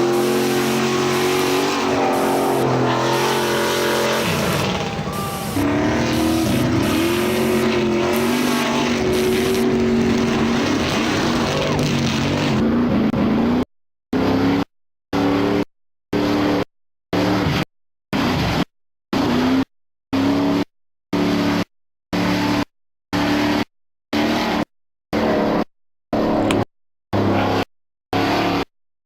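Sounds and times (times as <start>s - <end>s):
engine-like drone: 0.0s - 17.6s, 19.2s - 26.6s, 27.2s - 27.6s.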